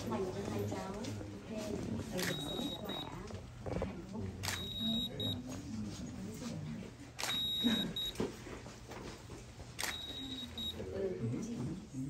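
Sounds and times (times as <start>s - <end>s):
faint murmuring voices: 0.0s - 12.0s.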